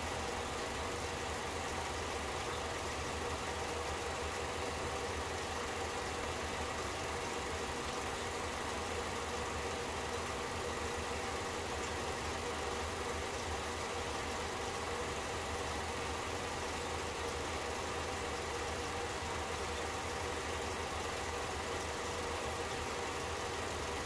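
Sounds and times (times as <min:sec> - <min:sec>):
film projector motor humming: 0:00.0 - 0:24.0.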